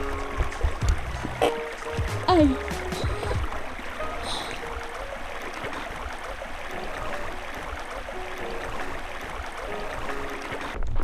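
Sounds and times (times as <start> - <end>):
running water rushing: 0.0 - 10.9.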